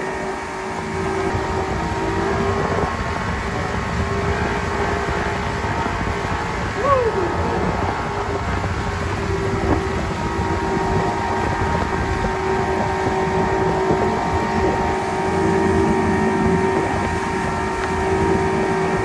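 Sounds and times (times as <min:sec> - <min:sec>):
boat motor running: 0:00.0 - 0:19.0
wind on microphone: 0:00.0 - 0:19.0.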